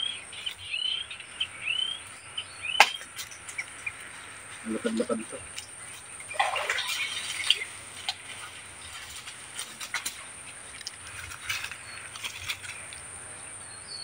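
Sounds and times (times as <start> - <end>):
rustling of dry palm fronds: 0.0 - 13.6.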